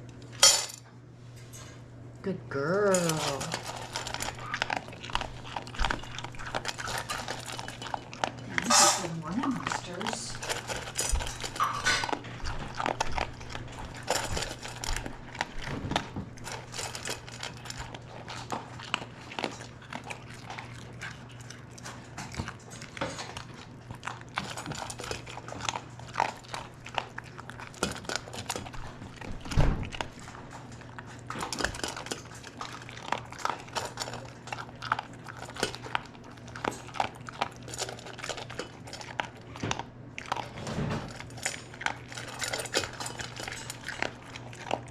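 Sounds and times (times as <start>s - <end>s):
dogs chewing and crunching: 0.0s - 44.9s.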